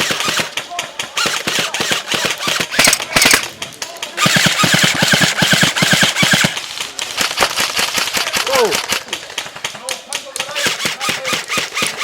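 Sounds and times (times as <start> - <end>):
airsoft gun firing: 0.0 - 12.0.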